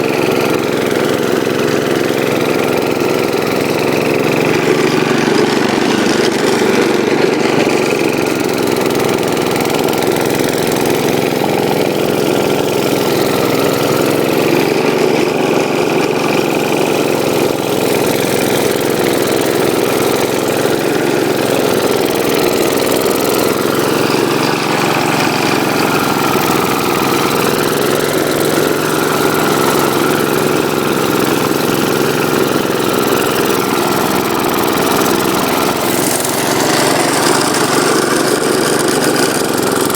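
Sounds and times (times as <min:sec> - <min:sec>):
snow blower engine running: 0:00.0 - 0:39.9.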